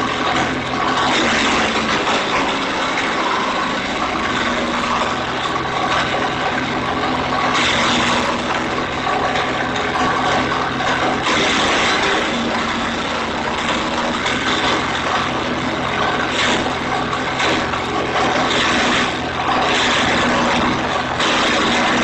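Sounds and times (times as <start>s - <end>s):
wood chipper engine hum: 0.0s - 22.0s.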